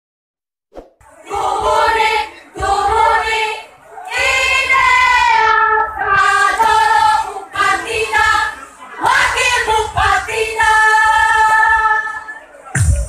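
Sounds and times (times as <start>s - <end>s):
chorus of high voices singing: 1.1s - 12.6s.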